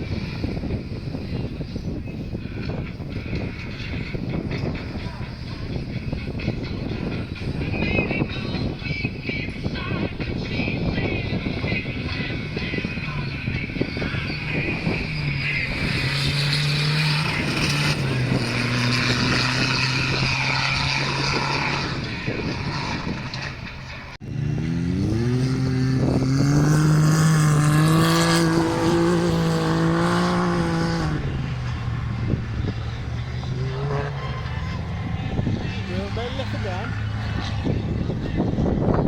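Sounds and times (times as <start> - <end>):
off-road vehicle engines revving: 0.0 - 39.0.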